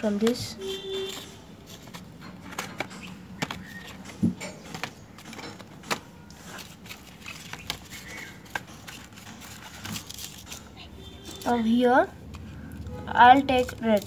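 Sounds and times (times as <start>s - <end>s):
paint tubes clicking and tapping: 0.1s - 14.0s.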